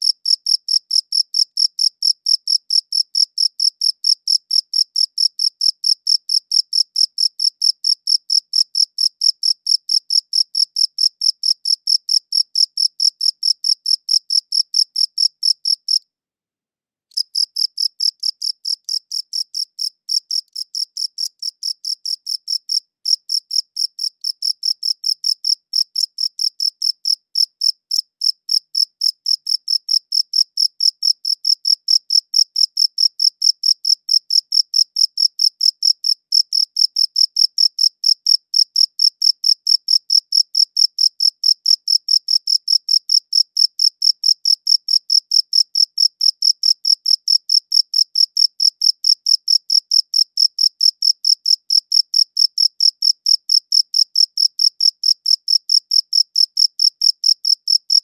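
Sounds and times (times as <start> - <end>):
cricket chirping: 0.0 - 16.0, 17.1 - 58.0.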